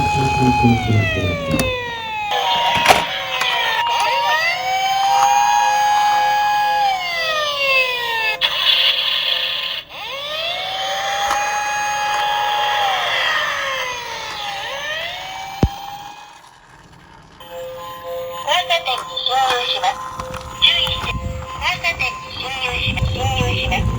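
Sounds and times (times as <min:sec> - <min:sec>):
emergency vehicle sirens wailing: 0:00.0 - 0:16.4, 0:18.4 - 0:23.9.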